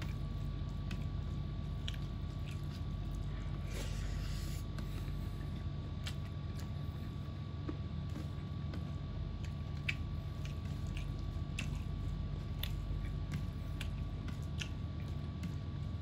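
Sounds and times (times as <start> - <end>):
chewing clicks and squishes: 0.0 - 3.7, 4.7 - 16.0
steady low hum: 0.0 - 16.0.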